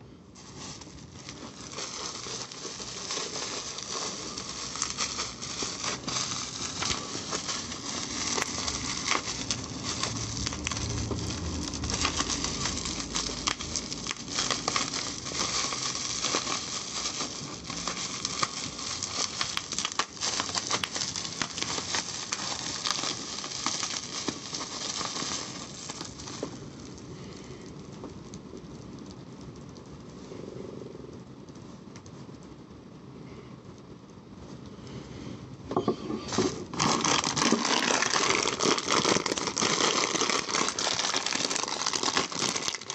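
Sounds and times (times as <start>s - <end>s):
packaging crinkling: 0.3s - 30.1s, 36.1s - 42.9s.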